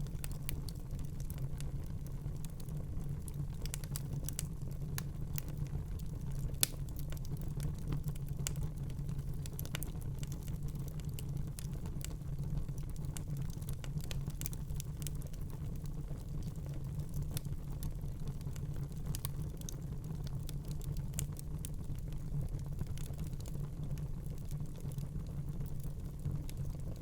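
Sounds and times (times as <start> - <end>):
fire crackling and popping: 0.0 - 27.0.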